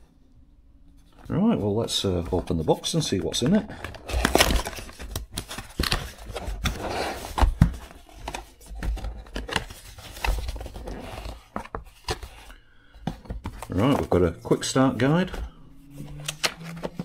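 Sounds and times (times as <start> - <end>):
packaging rustling: 1.8 - 17.0.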